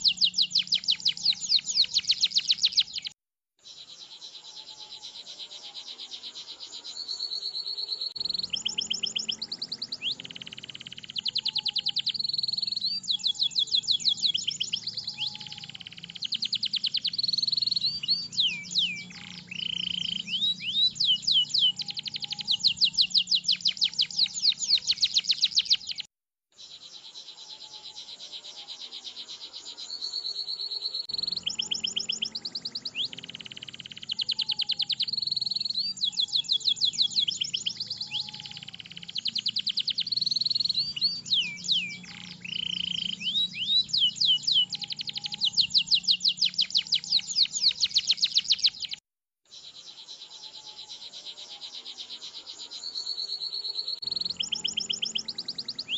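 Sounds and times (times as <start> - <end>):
canary singing trills and chirps: 0.0 - 55.9.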